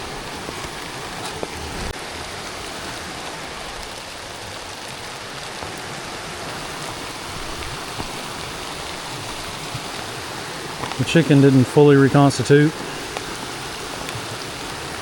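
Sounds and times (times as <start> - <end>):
rain hissing: 0.0 - 15.0
raindrops ticking: 0.0 - 15.0.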